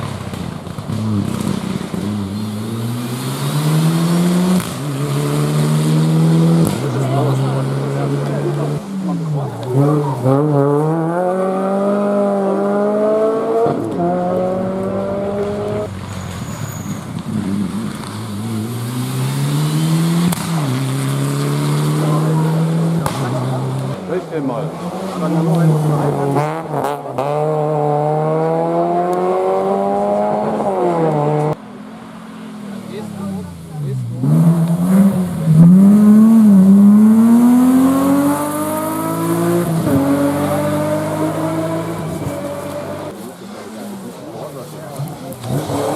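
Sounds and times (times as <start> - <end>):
rally car engines accelerating: 0.0 - 45.9.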